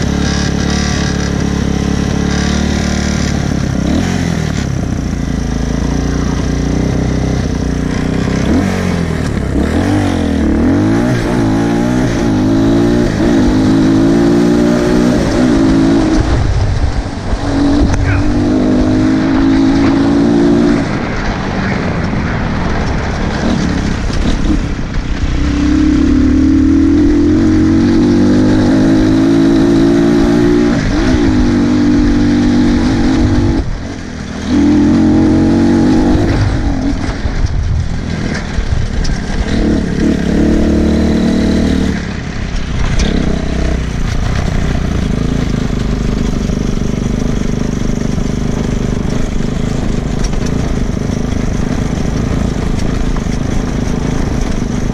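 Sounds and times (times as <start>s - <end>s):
dirt bike engine revving: 0.0s - 21.6s, 23.1s - 54.9s.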